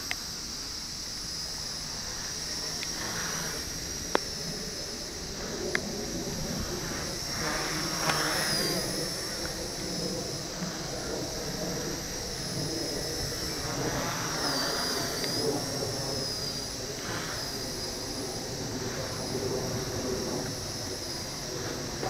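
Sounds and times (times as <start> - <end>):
steady rushing noise: 0.0 - 22.0
toy helicopter whine: 0.0 - 22.0.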